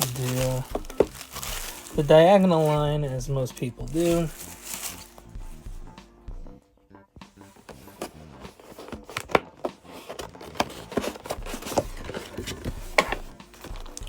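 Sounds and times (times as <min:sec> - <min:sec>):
plastic shrink wrap crinkling: 0:00.0 - 0:05.7, 0:08.4 - 0:14.0.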